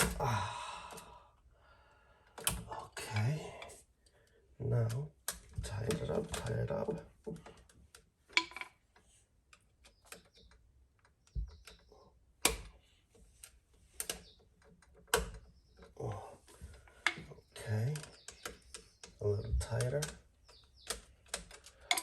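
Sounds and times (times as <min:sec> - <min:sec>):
hand tools clicking on wire: 0:02.3 - 0:12.7, 0:13.4 - 0:22.0.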